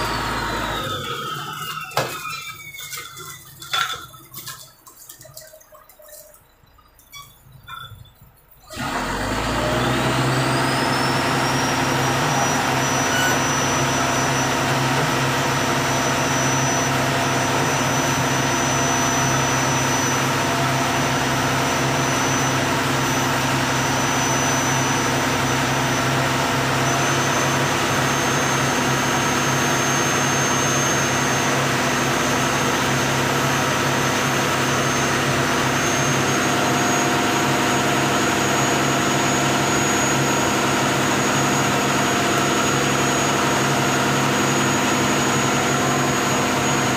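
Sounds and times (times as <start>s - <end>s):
high machine whine: 0.0s - 2.8s, 6.5s - 46.9s
boat engine and winch machinery: 0.0s - 46.9s.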